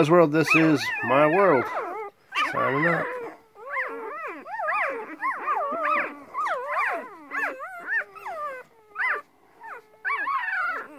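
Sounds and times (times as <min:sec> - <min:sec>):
puppies whining and squealing: 0:00.0 - 0:10.9.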